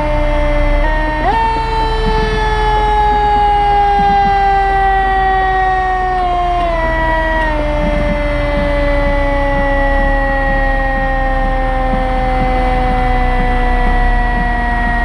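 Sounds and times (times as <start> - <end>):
fire truck siren wailing: 0.0 - 15.0
steady low rumble: 0.0 - 15.0.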